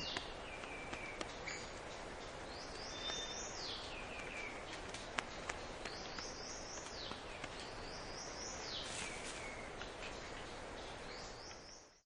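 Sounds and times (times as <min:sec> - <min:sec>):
bird singing: 0:00.0 - 0:12.0
steady background hiss: 0:00.0 - 0:12.0.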